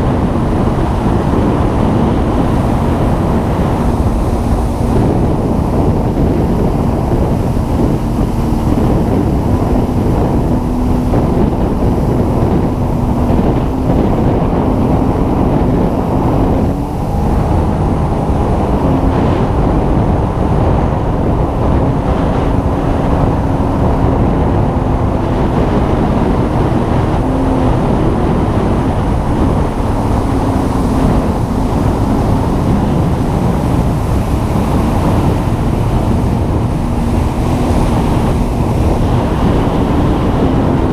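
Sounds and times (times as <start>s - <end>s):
rushing water: 0.0s - 40.9s
watercraft engine running: 0.0s - 40.9s
wind noise on microphone: 0.0s - 40.9s.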